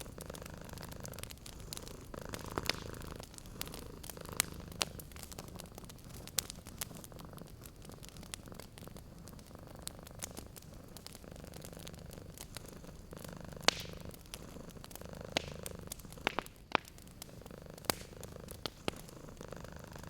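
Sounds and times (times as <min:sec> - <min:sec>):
cat purring: 0:00.0 - 0:20.0
wood fire crackling: 0:00.0 - 0:20.0.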